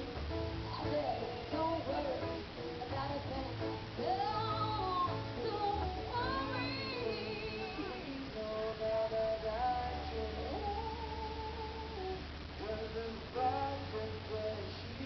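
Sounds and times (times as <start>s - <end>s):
voices singing a melody: 0.0s - 15.0s.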